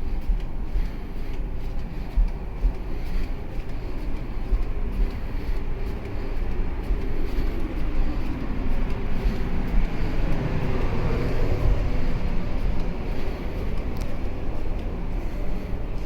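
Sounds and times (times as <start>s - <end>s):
ferry engine low rumble: 0.0s - 16.0s.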